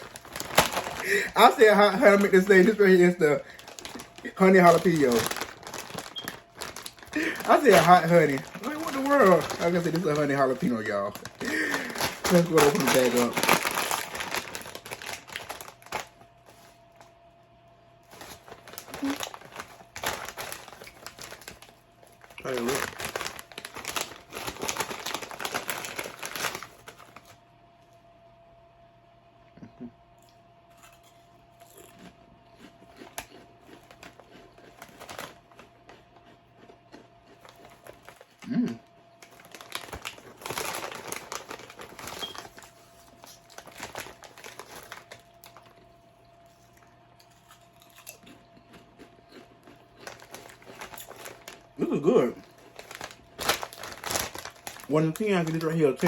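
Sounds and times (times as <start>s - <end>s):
chip bag crinkling: 0.0s - 17.3s, 18.0s - 27.4s, 30.8s - 56.0s.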